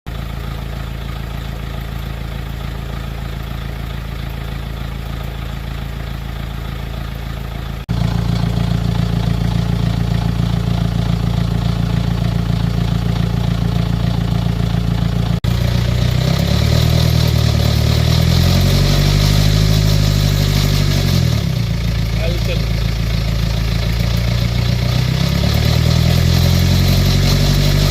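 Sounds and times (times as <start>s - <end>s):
car engine idling and revving: 0.1s - 27.9s.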